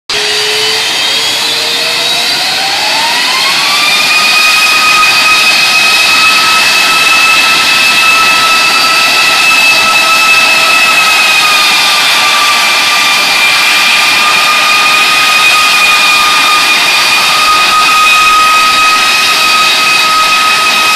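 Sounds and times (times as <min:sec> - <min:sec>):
jet engine whine: 0:00.1 - 0:20.9
jet noise rush: 0:00.1 - 0:20.9.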